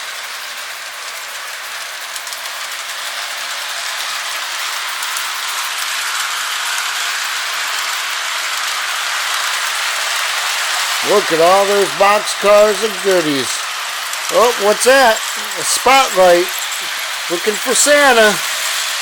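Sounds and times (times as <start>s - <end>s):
toy train whirring rattle: 0.0s - 19.0s.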